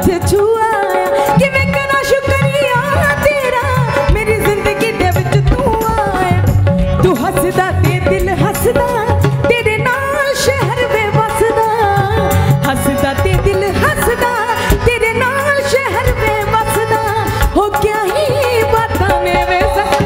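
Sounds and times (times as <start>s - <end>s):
steady drum beat: 0.0s - 20.0s
woman singing into microphone: 0.0s - 20.0s.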